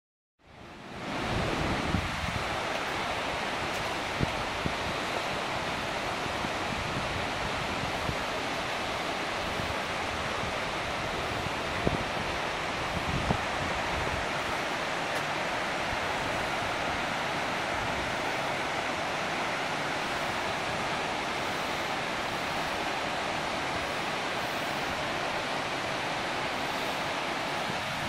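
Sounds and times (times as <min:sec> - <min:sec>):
waterfall and stream rushing: 0:00.5 - 0:28.0.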